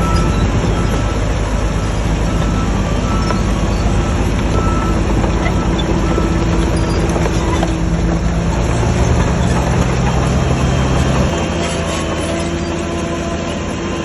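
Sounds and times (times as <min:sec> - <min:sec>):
bulldozer diesel engine running: 0:00.0 - 0:14.0
metallic clattering of steel tracks: 0:00.0 - 0:14.0.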